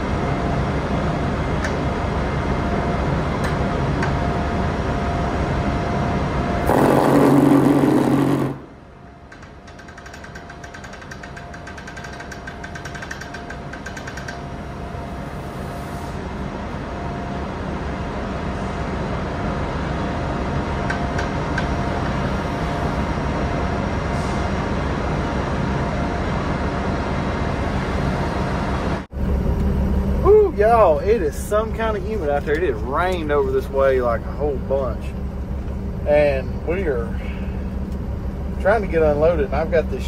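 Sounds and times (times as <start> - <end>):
low machinery hum: 0.0 - 40.0.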